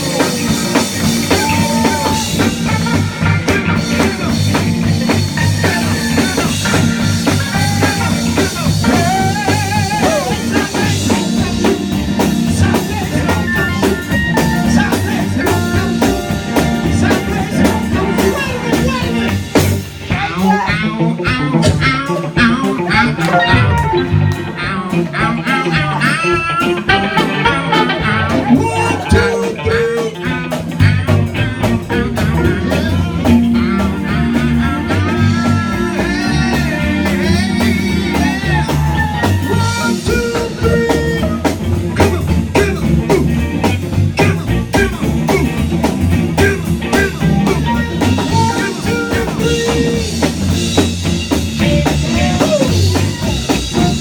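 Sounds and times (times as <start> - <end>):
blues guitar: 0.0 - 54.0
drum kit: 0.0 - 54.0.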